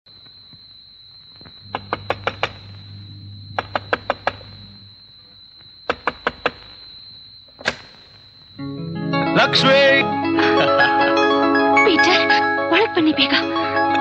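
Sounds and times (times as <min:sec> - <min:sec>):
high-pitched whine: 0:00.6 - 0:13.2.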